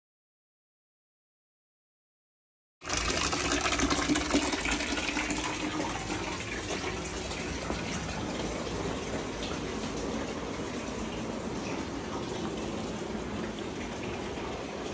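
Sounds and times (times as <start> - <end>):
electric water pump running: 2.8 - 14.9
water gushing through a hose: 2.8 - 14.9.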